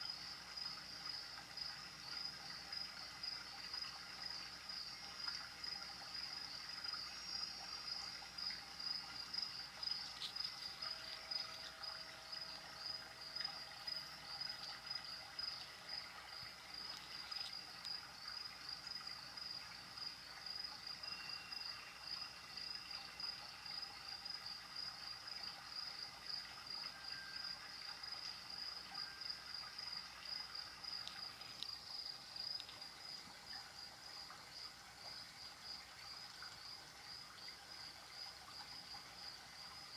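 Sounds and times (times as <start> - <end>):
crickets chirping: 0.0 - 39.9
faint trickle of water: 0.0 - 39.9.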